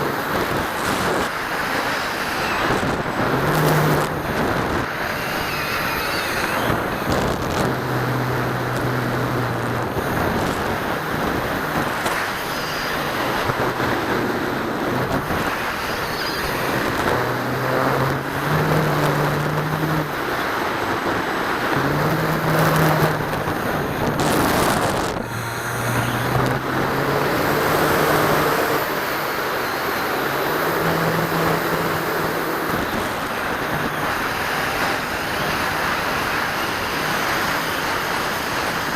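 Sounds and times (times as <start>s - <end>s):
electric motors and propellers humming: 0.0s - 38.9s
rushing airflow: 0.0s - 38.9s.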